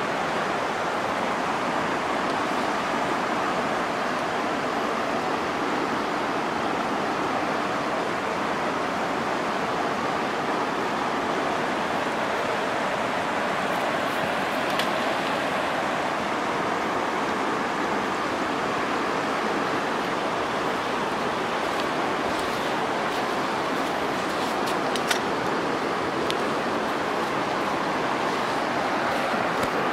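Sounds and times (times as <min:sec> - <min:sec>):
river water rushing over rocks: 0:00.0 - 0:29.9.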